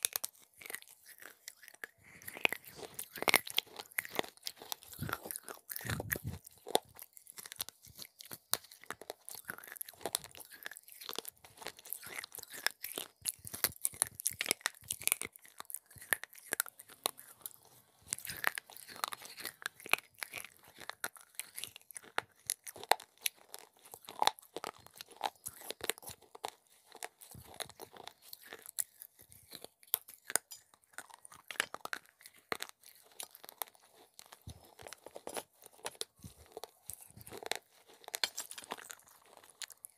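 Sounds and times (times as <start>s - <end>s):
clay pot pieces crunching in mouth: 0.0s - 39.9s.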